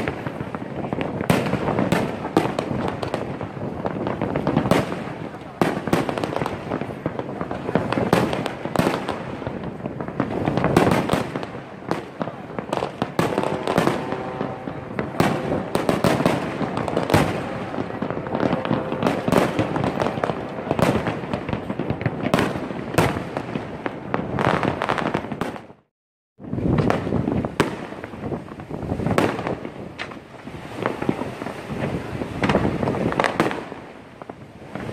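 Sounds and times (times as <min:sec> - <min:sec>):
fireworks bursting: 0:00.0 - 0:34.9
fireworks crackling: 0:00.0 - 0:34.9.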